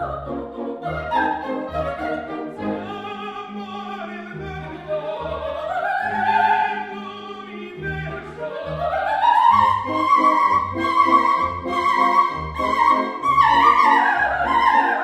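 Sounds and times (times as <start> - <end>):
classical background music: 0.0 - 15.0.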